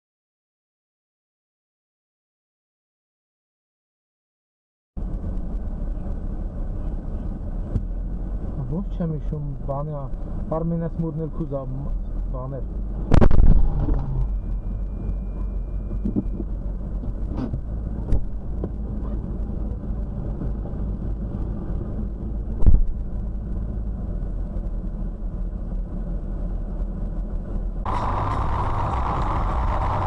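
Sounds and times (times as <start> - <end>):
car engine rumble: 5.0 - 30.0.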